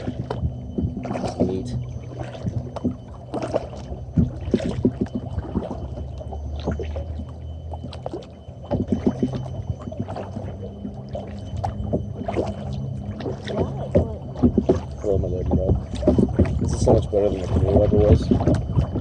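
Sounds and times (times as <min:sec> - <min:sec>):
paddle splashing in water: 0:00.0 - 0:19.0
steady low hum: 0:00.0 - 0:19.0
water dripping: 0:00.0 - 0:19.0.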